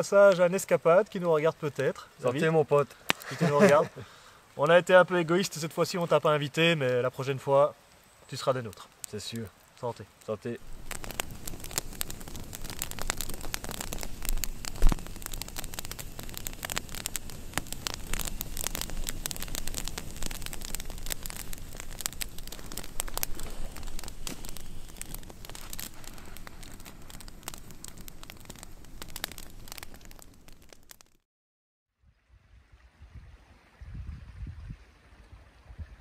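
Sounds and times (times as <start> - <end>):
steady hiss: 0.0 - 31.0
campfire crackling and popping: 0.0 - 31.2.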